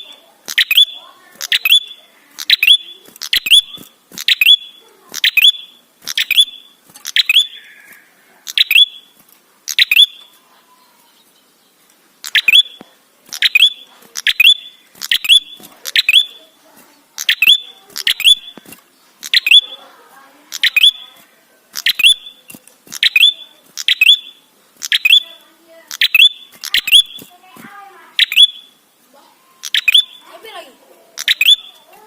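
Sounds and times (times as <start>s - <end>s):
bird chirping calls: 0.0s - 32.0s.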